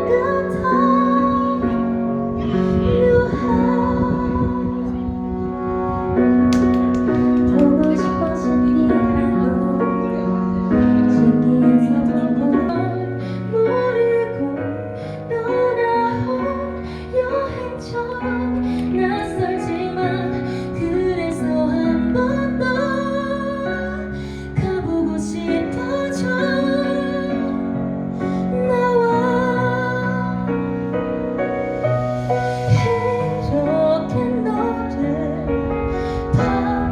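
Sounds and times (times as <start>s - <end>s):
woman singing slow song: 0.0s - 5.6s, 6.7s - 31.5s, 32.2s - 36.9s
piano accompaniment: 0.0s - 36.9s.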